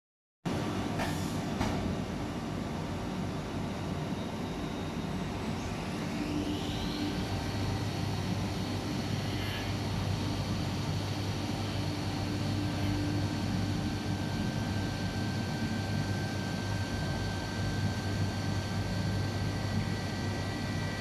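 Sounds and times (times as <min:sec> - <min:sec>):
high machine whine: 0:00.5 - 0:21.0
milling machine hum: 0:03.2 - 0:20.8.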